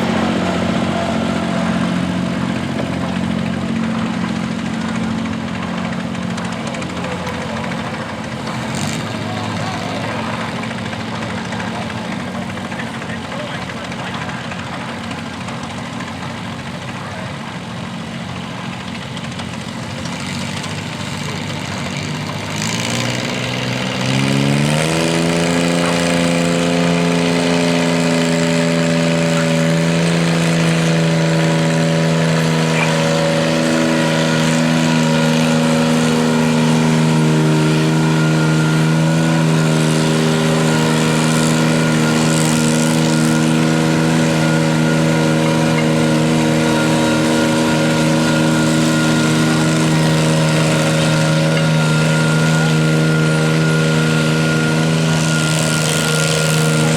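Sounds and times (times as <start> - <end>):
tractor engine revving: 0.0 - 56.9.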